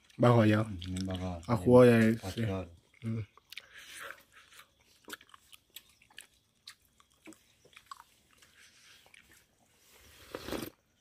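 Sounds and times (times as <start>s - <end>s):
chewing: 0.0s - 10.8s.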